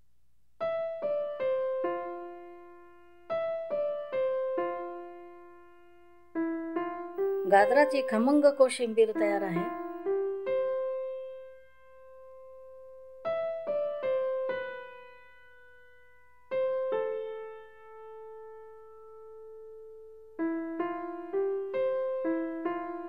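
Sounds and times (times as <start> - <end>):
solo piano music: 0.6 - 23.0.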